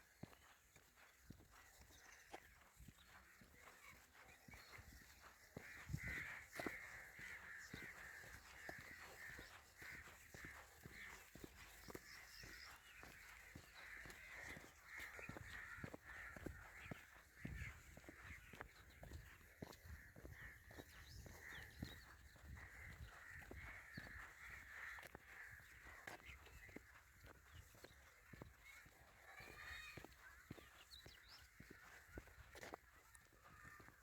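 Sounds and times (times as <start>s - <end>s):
footsteps on a path: 0.0s - 34.0s
birds calling: 0.1s - 34.0s.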